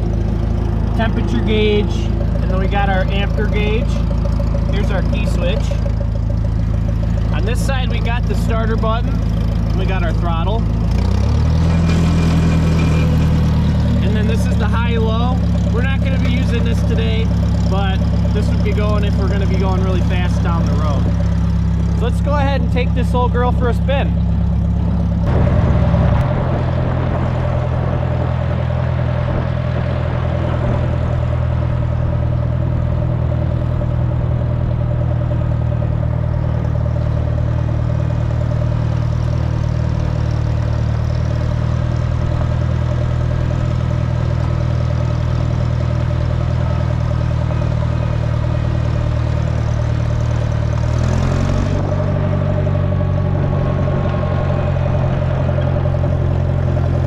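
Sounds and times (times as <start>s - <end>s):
road grader engine running: 0.0s - 57.0s.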